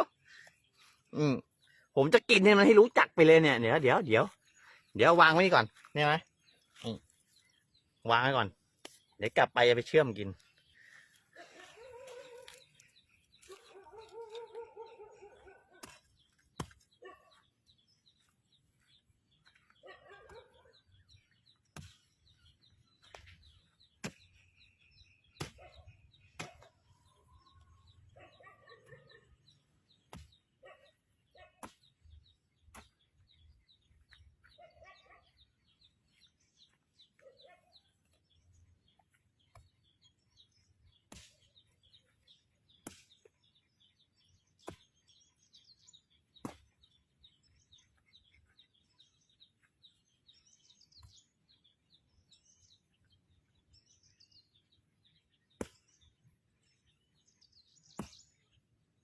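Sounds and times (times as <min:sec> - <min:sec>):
faint bird chirps: 0:05.8 - 0:58.6.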